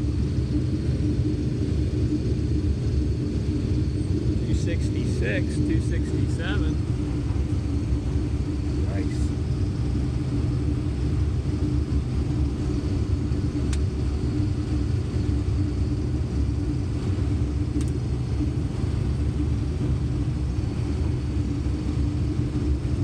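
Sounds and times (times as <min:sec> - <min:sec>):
combine harvester running: 0:01.4 - 0:23.0.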